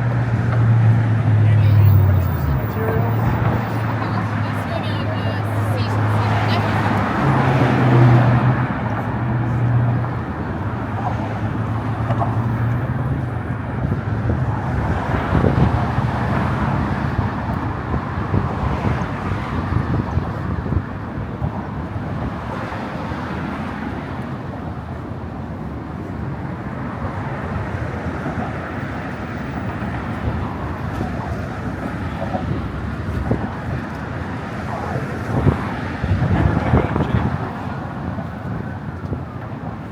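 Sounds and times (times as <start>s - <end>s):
traffic on bridge roadway: 0.0s - 39.9s.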